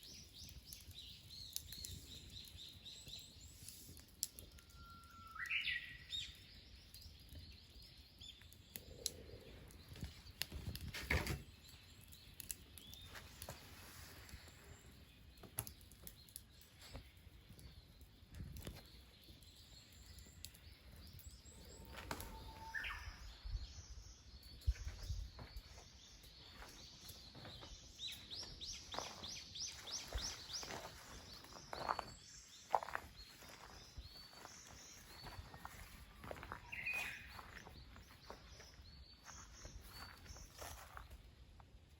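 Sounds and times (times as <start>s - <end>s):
birds chirping: 0.0s - 41.6s.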